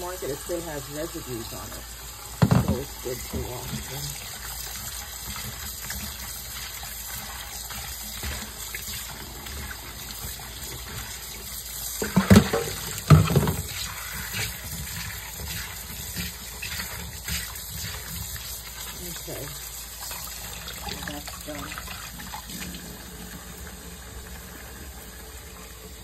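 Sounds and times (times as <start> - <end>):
faucet running into metal sink: 0.0 - 26.0.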